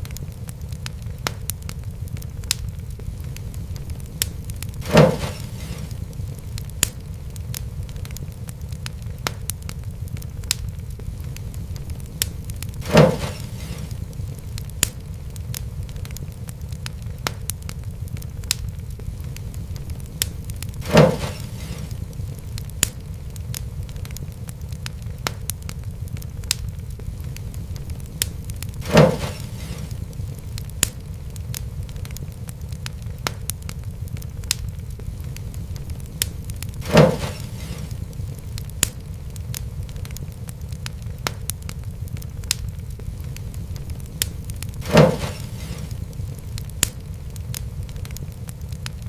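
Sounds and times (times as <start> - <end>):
loud fire pops: 0.0 - 49.0
wood fire crackling: 0.0 - 49.0.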